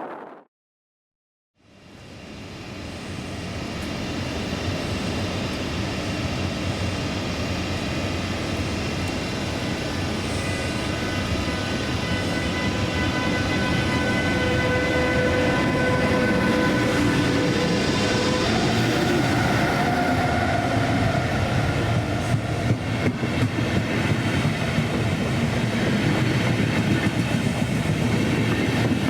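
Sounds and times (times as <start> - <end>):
train rumble approaching: 2.0 - 29.0.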